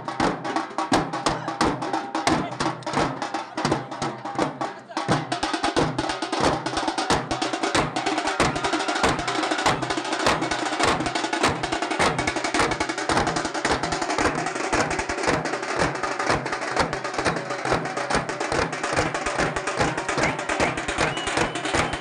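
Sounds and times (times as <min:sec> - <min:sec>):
barrel drums beaten with sticks: 0:00.0 - 0:22.0.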